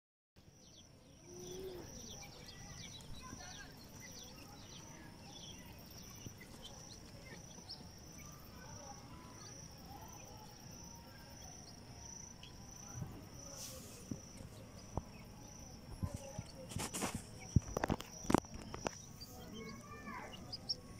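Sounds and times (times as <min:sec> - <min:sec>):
faint bird chirps: 0:00.4 - 0:20.9
cricket chirping: 0:00.5 - 0:20.9.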